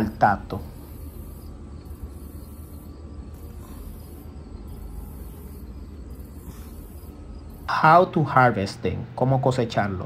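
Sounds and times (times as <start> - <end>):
steady low rumble: 0.0 - 9.8
crickets chirping faintly: 0.0 - 10.0.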